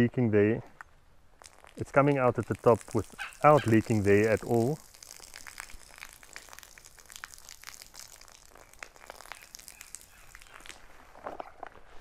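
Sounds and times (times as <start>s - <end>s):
water running onto dirt: 1.2s - 11.4s.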